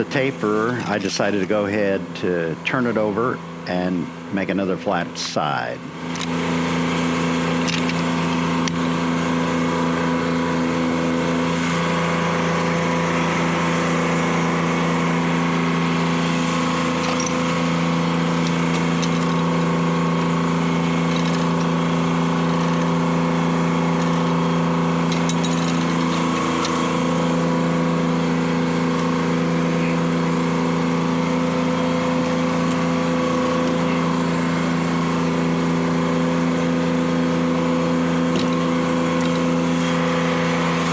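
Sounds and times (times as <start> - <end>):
two-stroke diesel engine running: 0.0 - 40.9.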